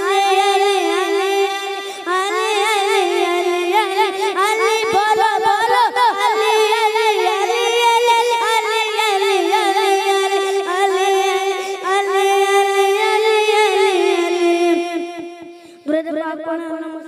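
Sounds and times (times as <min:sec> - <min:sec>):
boy singing into microphone: 0:00.0 - 0:17.0.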